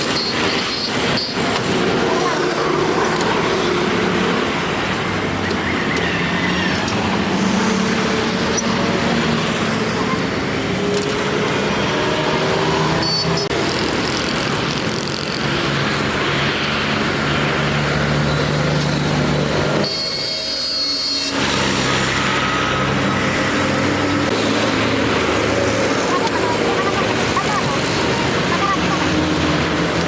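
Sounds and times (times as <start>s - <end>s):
traffic noise: 0.0s - 30.0s.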